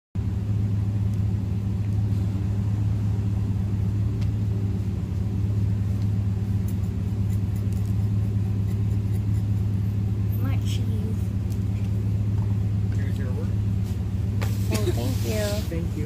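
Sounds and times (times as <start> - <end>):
low mechanical hum: 0.2 - 16.0.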